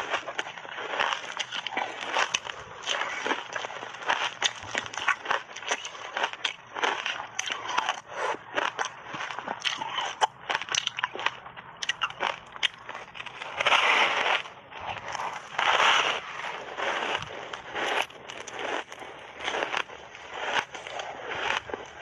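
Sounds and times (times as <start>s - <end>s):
crunching and chewing ice: 0.0s - 22.0s.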